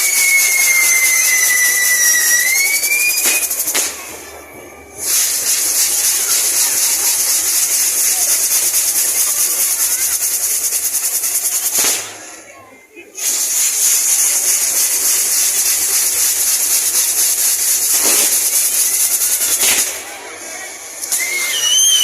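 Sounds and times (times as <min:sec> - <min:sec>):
fireworks hissing: 0:00.0 - 0:22.0
whistling firework: 0:00.0 - 0:22.0.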